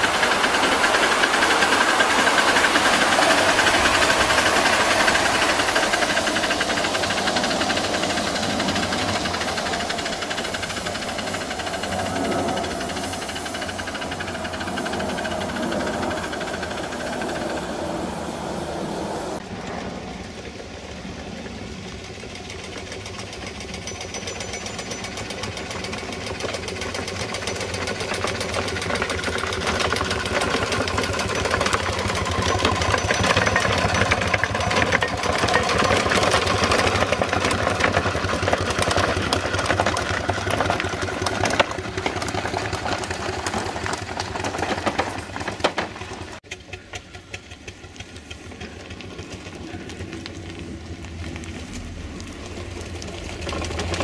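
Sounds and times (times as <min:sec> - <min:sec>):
steam engine exhaust chuffing: 0:00.0 - 0:54.0.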